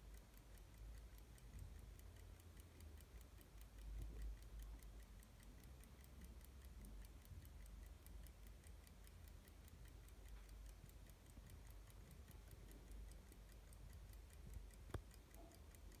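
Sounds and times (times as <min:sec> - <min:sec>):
desk clock ticking: 0:00.0 - 0:16.0.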